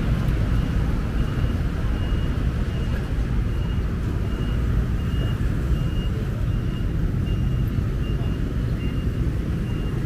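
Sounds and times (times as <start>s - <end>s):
street traffic rumble: 0.0s - 10.0s
reversing alarm beeping: 0.5s - 10.0s.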